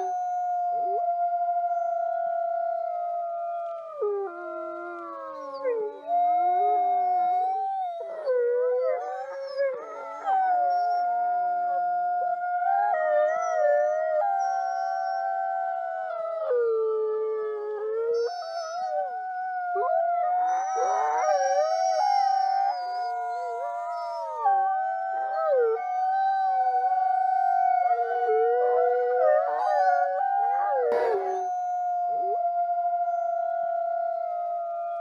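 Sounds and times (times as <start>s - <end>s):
wolves howling: 0.0s - 35.0s.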